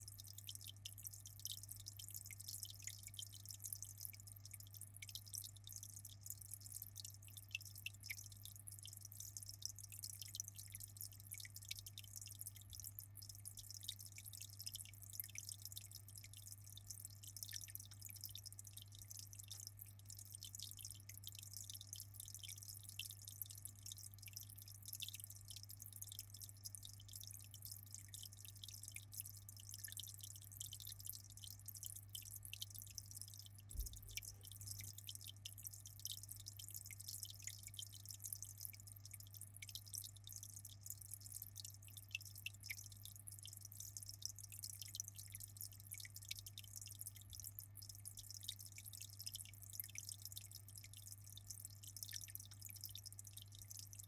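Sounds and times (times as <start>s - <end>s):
water trickling and dripping: 0.0s - 54.0s.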